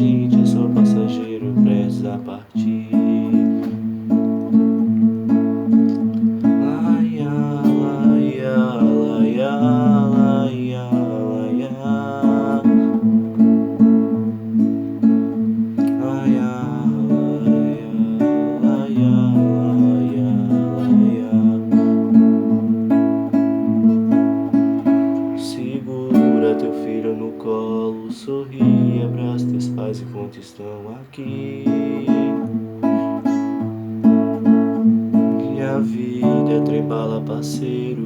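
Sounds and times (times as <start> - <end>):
person singing wordless melody: 0.0 - 4.6, 5.9 - 34.4, 35.1 - 38.0
acoustic guitar strumming: 0.0 - 38.0.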